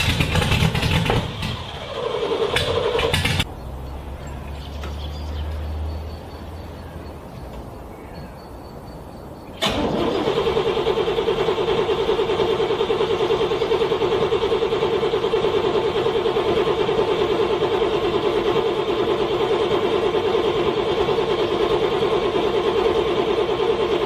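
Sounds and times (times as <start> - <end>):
car engine cranking: 0.0 - 6.0, 9.6 - 24.0
engine running with rhythmic chug: 0.0 - 6.8, 9.6 - 24.0.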